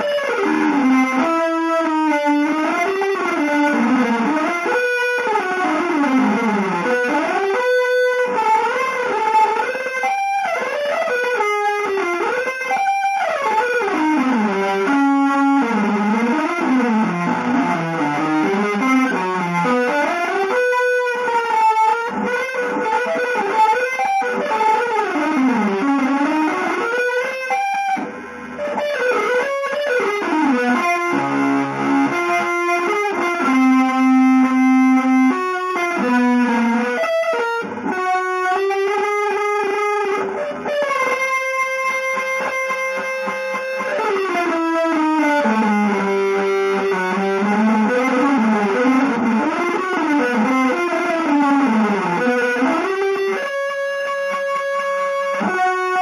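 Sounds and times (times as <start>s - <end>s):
electric guitar free jazz playing: 0.0s - 56.0s.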